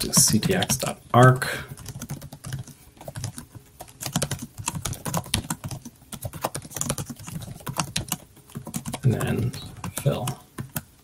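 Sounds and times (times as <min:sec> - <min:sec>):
computer keyboard typing: 0:00.0 - 0:01.0, 0:01.7 - 0:11.0.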